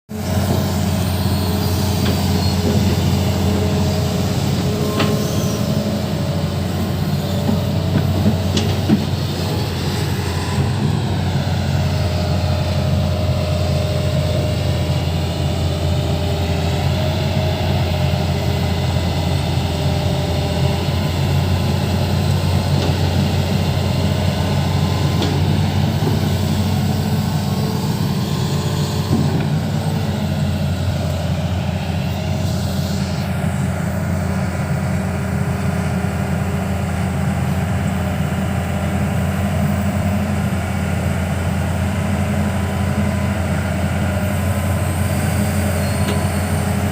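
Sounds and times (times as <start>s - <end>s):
diesel engine running: 0.1s - 46.9s.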